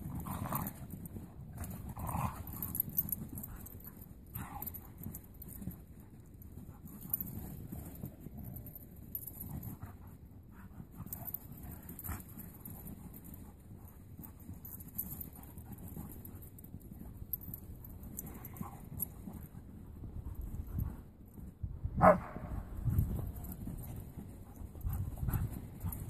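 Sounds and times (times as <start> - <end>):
dogs play noises: 0.0 - 21.0.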